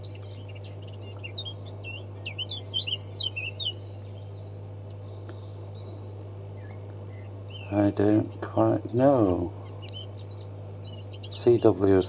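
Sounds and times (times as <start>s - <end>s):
low hum: 0.0s - 12.0s
small bird chirping: 0.0s - 12.0s.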